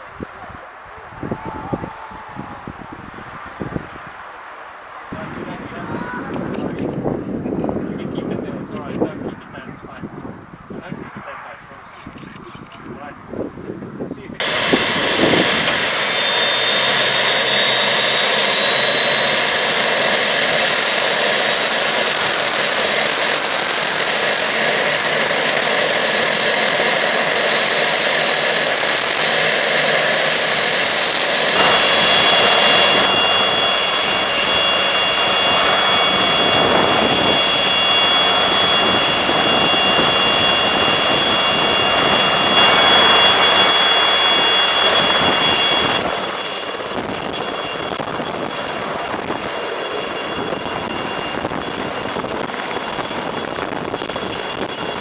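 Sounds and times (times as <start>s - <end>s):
helicopter turbine engine whine: 5.1s - 55.0s.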